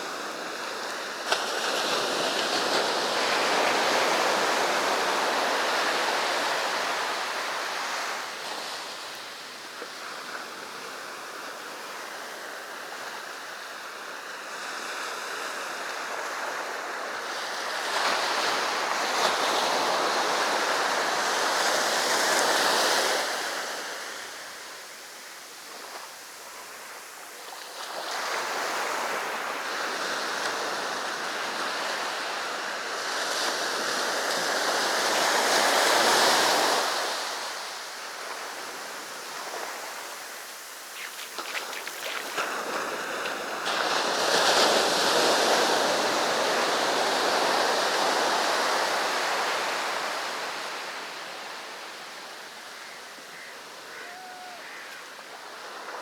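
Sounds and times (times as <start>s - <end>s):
waves breaking on shore: 0.0s - 52.3s.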